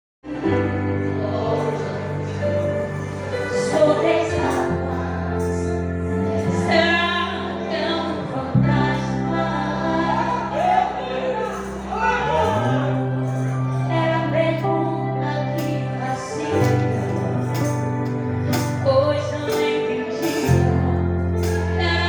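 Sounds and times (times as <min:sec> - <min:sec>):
choir singing a hymn: 0:00.2 - 0:22.0
instrumental accompaniment: 0:00.3 - 0:22.0.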